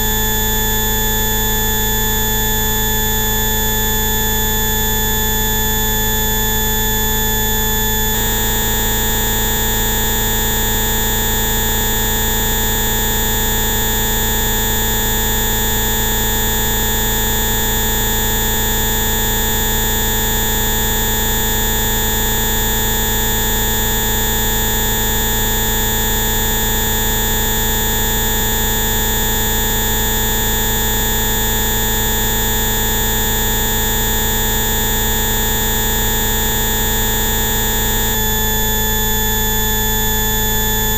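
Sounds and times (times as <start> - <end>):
electronic tones buzzing drone: 0.0 - 40.9.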